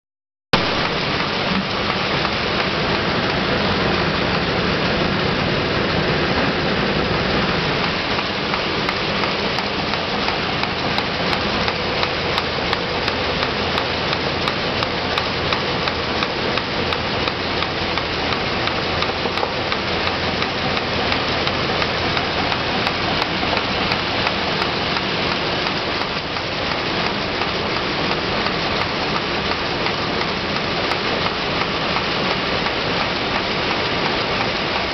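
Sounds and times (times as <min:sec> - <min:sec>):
machine rattling with fine ticks: 0:00.6 - 0:03.4, 0:07.5 - 0:34.9.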